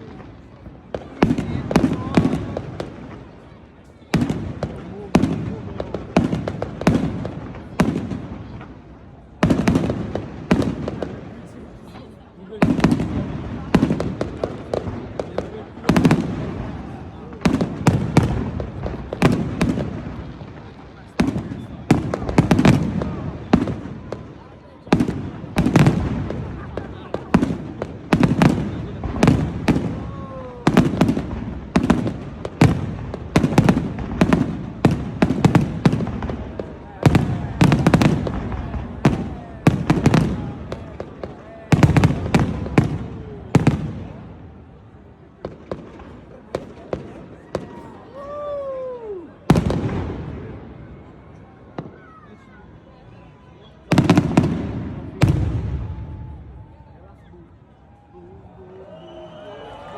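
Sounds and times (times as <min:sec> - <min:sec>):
fireworks bangs: 0:00.0 - 0:57.3
small fireworks cracks: 0:00.0 - 0:59.9.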